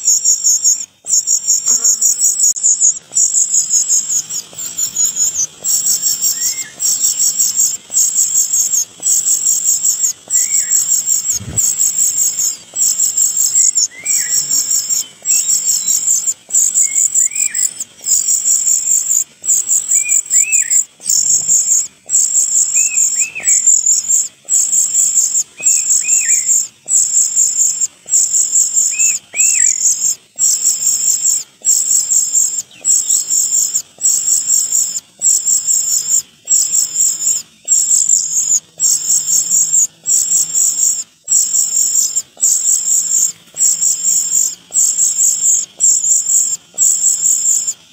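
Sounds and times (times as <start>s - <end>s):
bird chirps: 0.0s - 47.9s
insect trilling: 0.0s - 47.9s.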